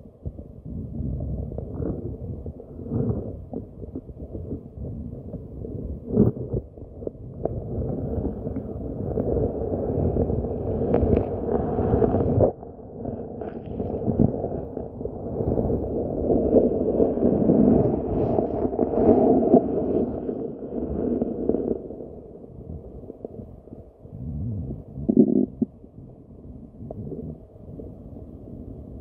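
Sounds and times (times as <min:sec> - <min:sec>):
muffled underwater rumbling water: 0:00.0 - 0:29.0.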